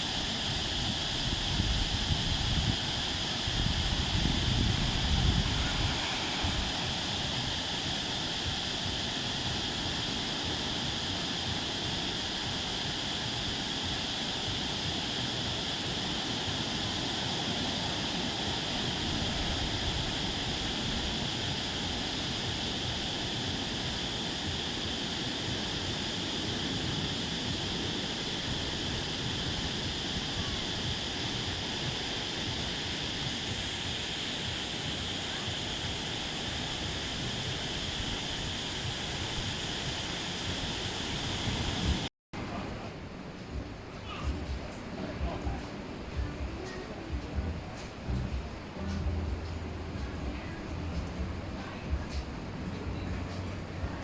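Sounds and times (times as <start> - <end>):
high hiss: 0.0 - 54.0
rushing water: 0.0 - 54.0.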